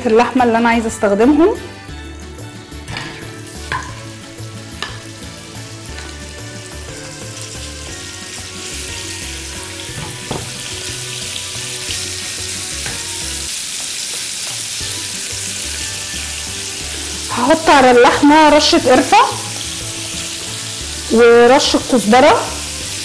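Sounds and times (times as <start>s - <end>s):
meat sizzling in a frying pan: 2.3s - 23.0s.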